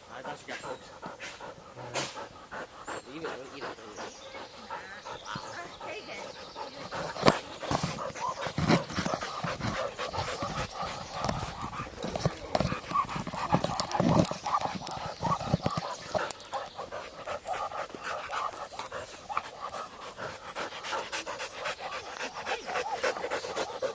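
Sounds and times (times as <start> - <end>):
dog panting: 0.0 - 23.9.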